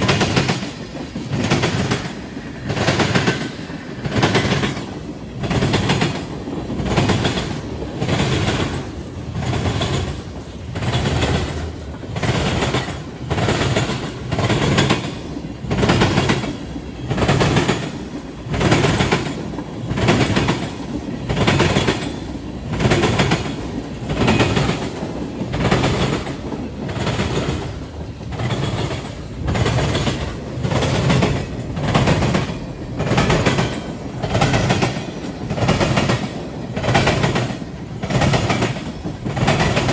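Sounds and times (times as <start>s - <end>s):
train wheels clattering over crossing: 0.0s - 39.9s.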